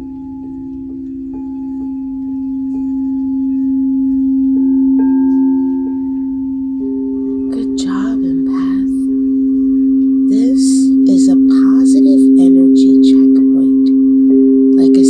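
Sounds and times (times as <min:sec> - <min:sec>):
singing bowl low tone: 0:00.0 - 0:15.0.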